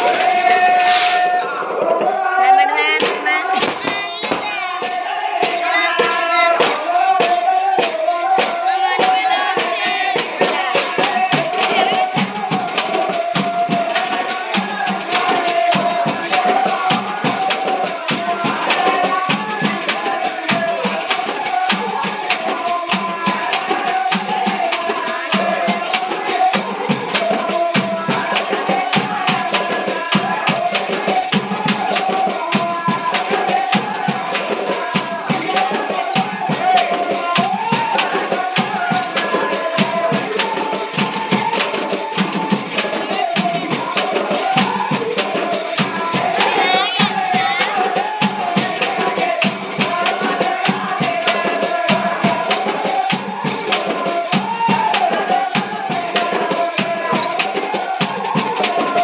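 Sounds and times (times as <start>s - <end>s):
tambourines beaten fast: 0.0s - 59.0s.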